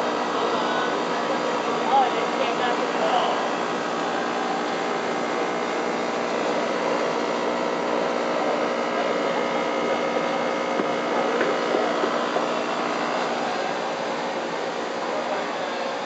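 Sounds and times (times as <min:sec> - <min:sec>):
fish tank pump whirring: 0:00.0 - 0:16.0.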